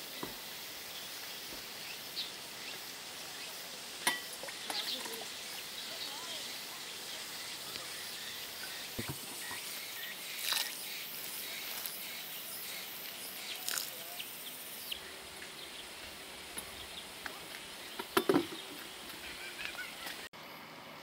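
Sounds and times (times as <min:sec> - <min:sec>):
insects buzzing: 0:00.0 - 0:20.8.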